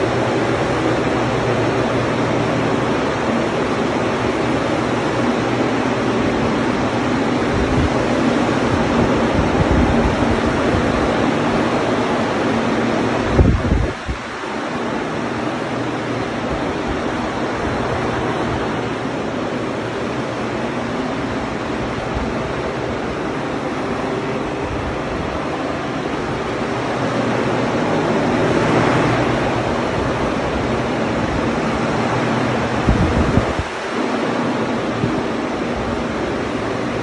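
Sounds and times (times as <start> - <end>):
fans rushing air: 0.0 - 37.0.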